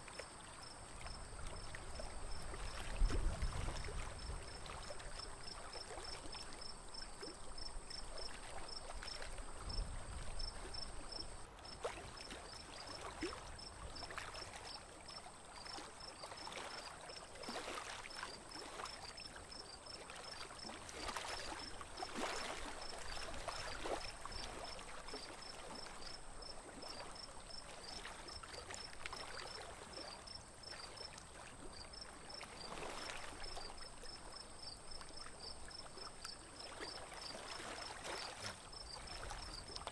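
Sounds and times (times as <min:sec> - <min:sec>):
water lapping against boat: 0:00.0 - 0:39.9
water splashes: 0:00.0 - 0:39.9.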